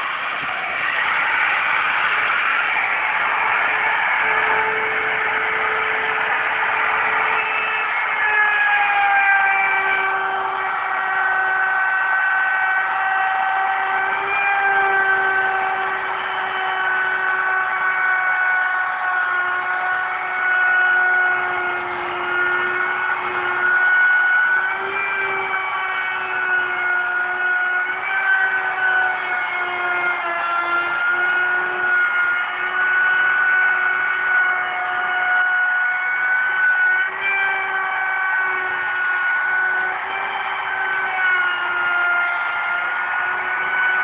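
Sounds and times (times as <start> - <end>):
electric router whining: 0.0 - 44.0.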